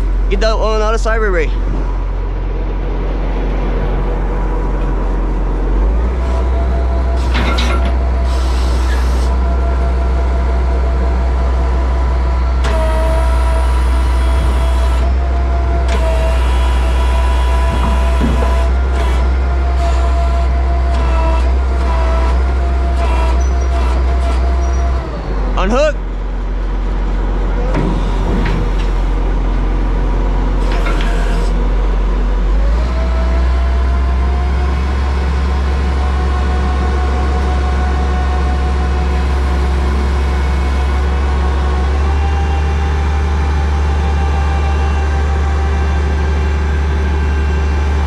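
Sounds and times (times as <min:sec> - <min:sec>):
truck engine running: 0:00.0 - 0:48.0
hydraulic whine: 0:01.6 - 0:48.0.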